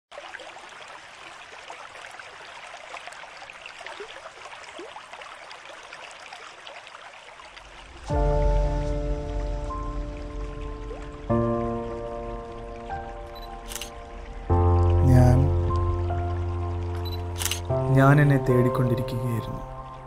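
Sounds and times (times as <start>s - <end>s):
water trickling and dripping: 0.1s - 20.0s.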